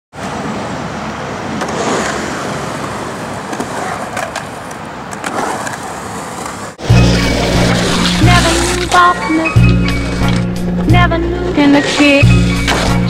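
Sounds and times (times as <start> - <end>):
skateboard wheels rolling on concrete: 0.1 - 13.0.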